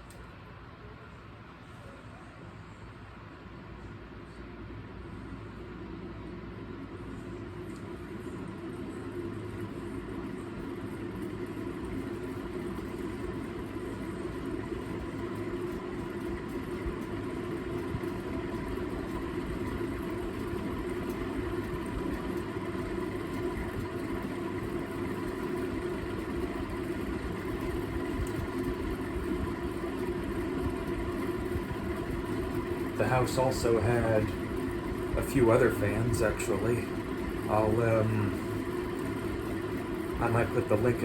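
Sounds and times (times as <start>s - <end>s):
ceiling fan motor hum: 0.0s - 41.0s.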